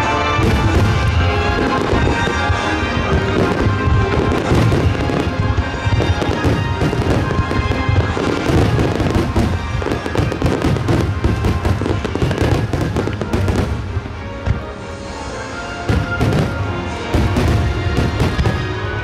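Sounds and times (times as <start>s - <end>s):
fireworks bursting and crackling: 0.0s - 19.0s
music: 0.0s - 19.0s.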